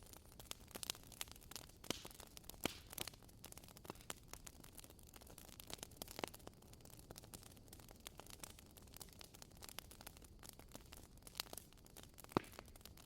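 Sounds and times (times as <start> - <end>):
firewood crackling: 0.0 - 13.0
sharp pops and snaps: 0.0 - 13.0.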